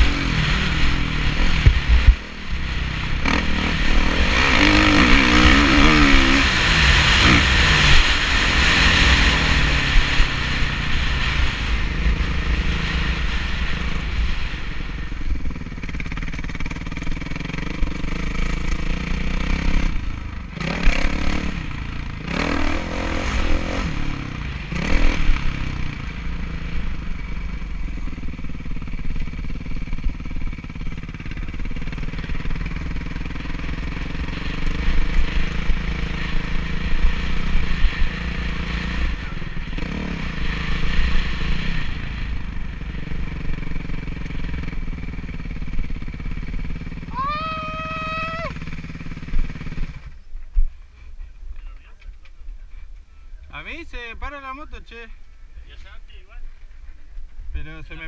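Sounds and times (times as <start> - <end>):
motocross engine revving: 0.0 - 50.2.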